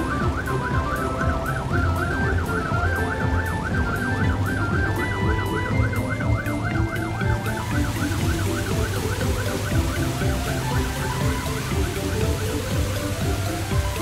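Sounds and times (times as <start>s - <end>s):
background music: 0.0s - 14.0s
fire truck siren yelping: 0.0s - 14.0s.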